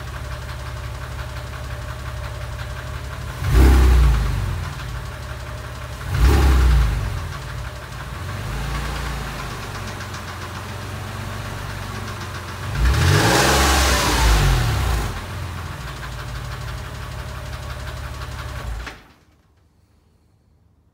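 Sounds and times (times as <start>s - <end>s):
fast engine ticking: 0.0s - 18.9s
car engine idling and revving: 0.0s - 19.0s.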